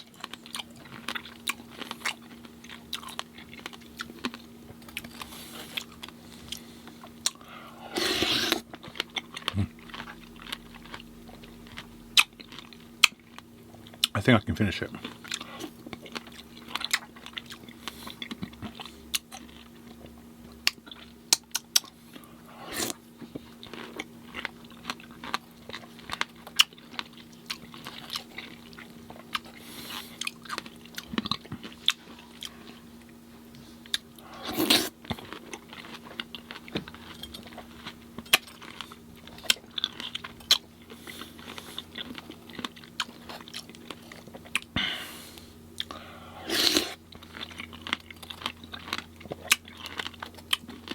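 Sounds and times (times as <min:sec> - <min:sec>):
chewing and biting fruit: 0:00.0 - 0:14.2, 0:14.9 - 0:50.9.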